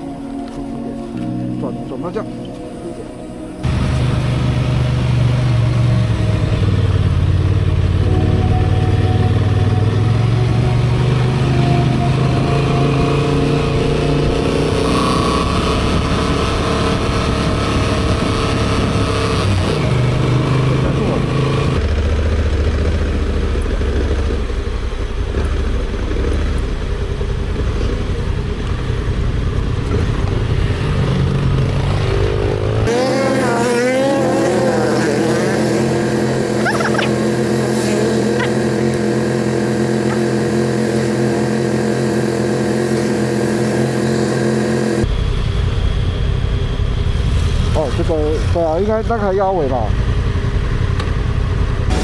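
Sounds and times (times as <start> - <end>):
motorcycle engine rumbling: 0.0 - 52.0
engine revving: 3.6 - 45.1, 47.2 - 52.0.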